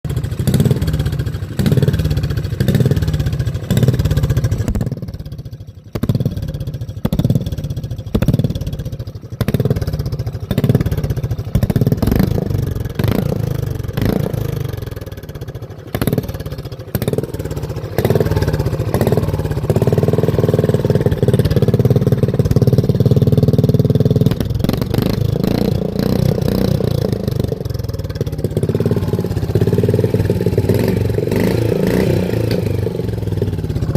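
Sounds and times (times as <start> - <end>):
mini bike engine revving: 0.1 - 5.3, 6.0 - 33.9.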